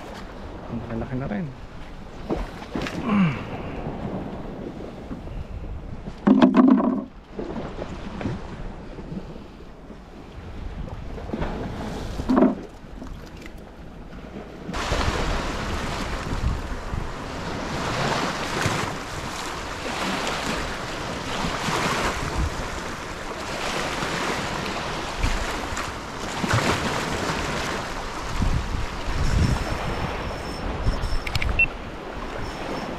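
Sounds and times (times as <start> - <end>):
waves washing on shore: 0.0 - 32.9
wind on microphone: 1.7 - 13.3, 14.7 - 32.9.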